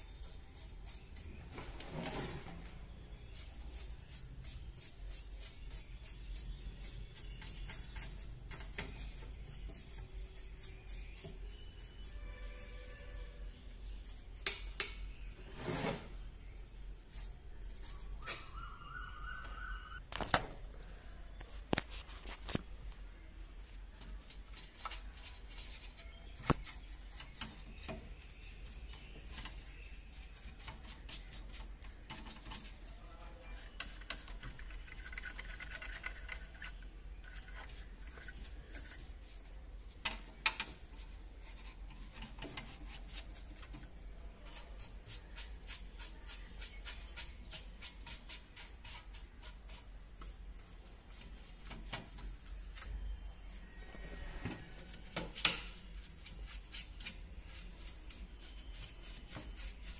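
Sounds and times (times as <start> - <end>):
paintbrush bristles scratching metal: 0.0 - 19.2, 23.4 - 59.9.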